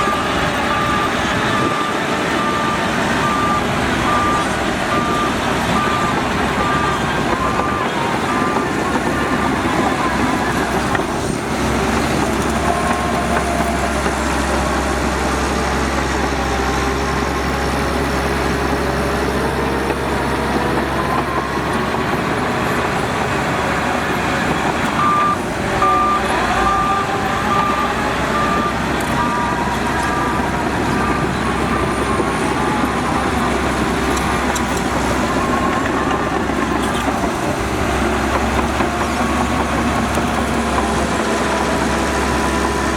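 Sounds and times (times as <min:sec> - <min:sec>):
reversing alarm beeping: 0:00.0 - 0:14.6, 0:17.8 - 0:42.9
heavy diesel machinery running: 0:00.0 - 0:42.9.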